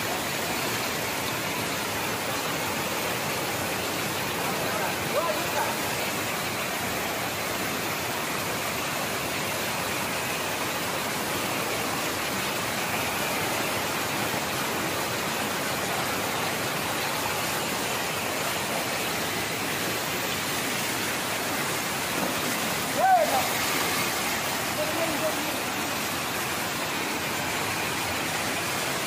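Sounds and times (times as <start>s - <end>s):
water rushing over a weir: 0.0s - 29.0s.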